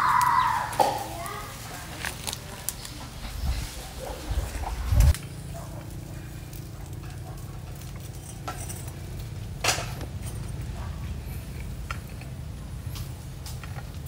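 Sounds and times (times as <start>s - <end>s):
fire humming: 0.0s - 14.0s.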